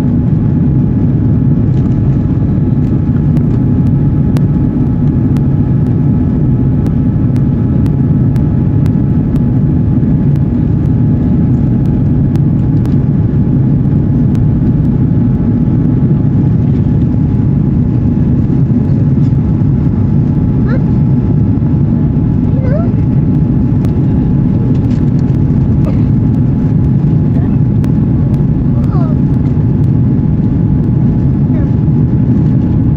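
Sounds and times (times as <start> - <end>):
faint steady whine: 0.0 - 32.9
jet engine and airflow roar: 0.0 - 32.9.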